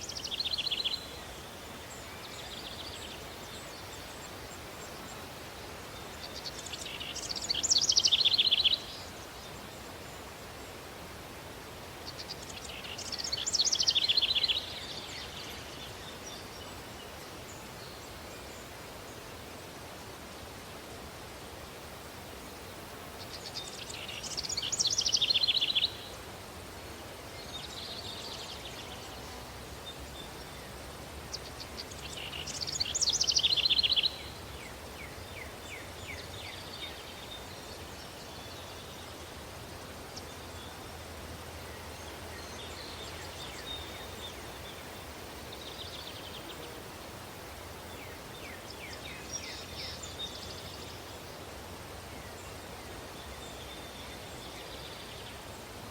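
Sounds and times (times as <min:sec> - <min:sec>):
songbirds calling: 0:00.0 - 0:55.9.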